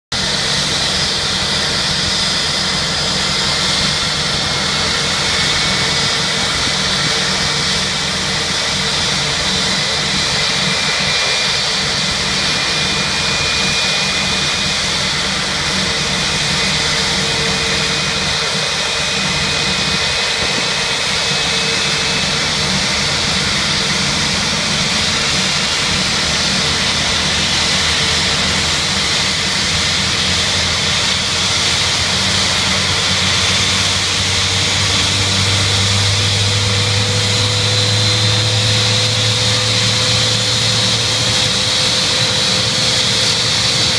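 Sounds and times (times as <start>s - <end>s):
jet engine whining: 0.1s - 43.9s.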